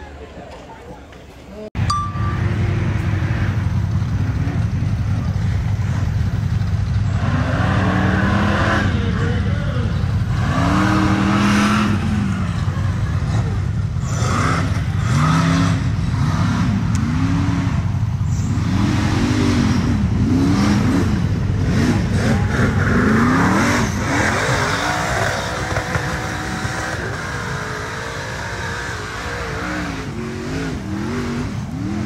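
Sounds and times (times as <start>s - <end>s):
buggy engine revving: 2.1s - 32.0s.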